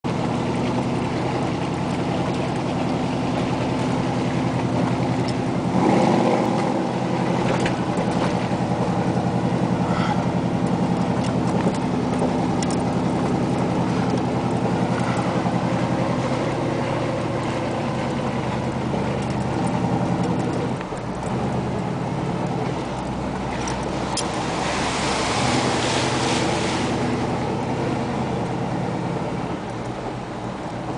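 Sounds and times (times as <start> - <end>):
truck engine running: 0.0 - 30.9.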